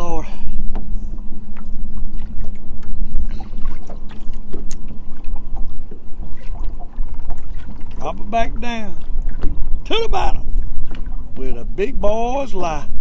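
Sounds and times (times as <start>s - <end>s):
steady low hum: 0.0s - 13.0s
strong wind buffeting microphone: 0.0s - 13.0s
water slapping boat hull: 0.0s - 13.0s.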